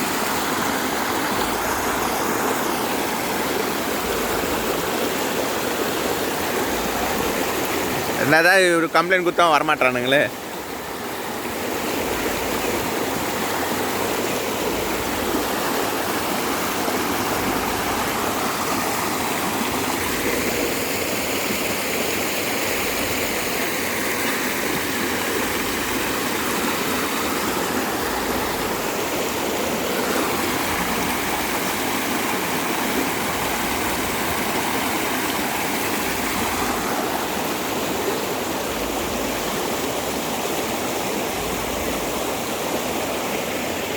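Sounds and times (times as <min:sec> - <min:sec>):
floodwater rushing: 0:00.0 - 0:43.9.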